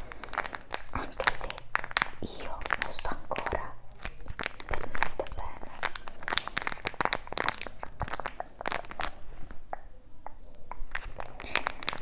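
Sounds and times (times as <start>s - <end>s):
plastic packaging crinkling: 0.0s - 9.6s, 10.8s - 12.0s.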